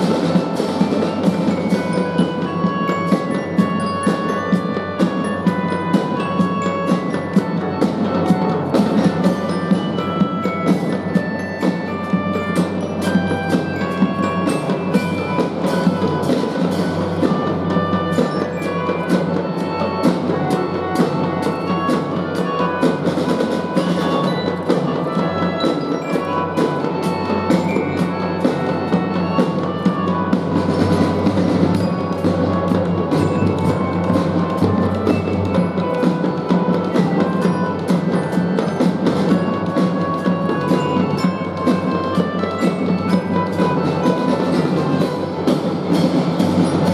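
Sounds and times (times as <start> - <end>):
drums fast steady rhythm: 0.0 - 46.9
glockenspiel melody: 0.0 - 46.9.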